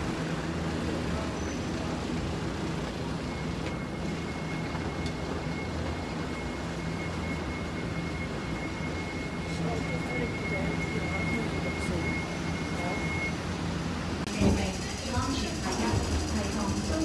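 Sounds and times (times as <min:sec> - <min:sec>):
bus engine idling: 0:00.0 - 0:17.0
high-pitched whine: 0:00.0 - 0:17.0
street noise: 0:00.0 - 0:17.0.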